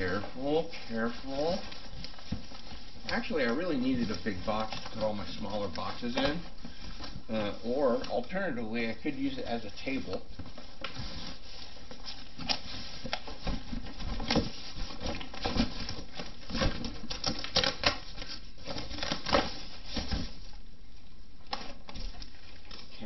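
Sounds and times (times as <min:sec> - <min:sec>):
cardboard boxes rustling and scraping: 0:00.0 - 0:20.6.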